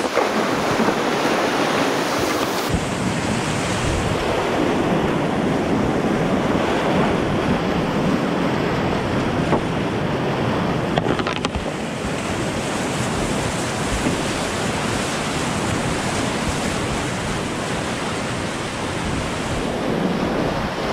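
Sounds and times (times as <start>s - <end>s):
whitewater rushing: 0.0s - 20.9s.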